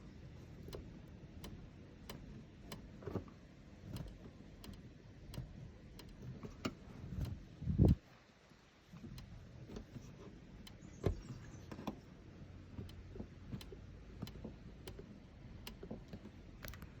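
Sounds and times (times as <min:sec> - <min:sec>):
folding hardtop rattling clicks: 0:00.6 - 0:08.0, 0:09.1 - 0:17.0.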